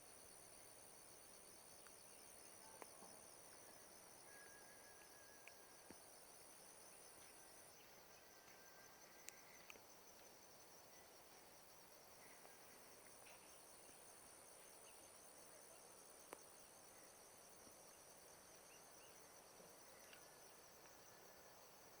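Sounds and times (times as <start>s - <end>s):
crickets and insects chirring: 0.0s - 22.0s
faint chirps: 1.7s - 21.6s.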